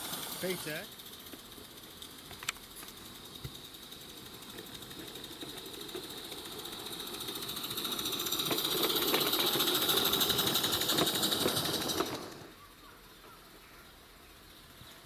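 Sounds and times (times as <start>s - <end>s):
steam locomotive chuffing: 0.0s - 13.3s.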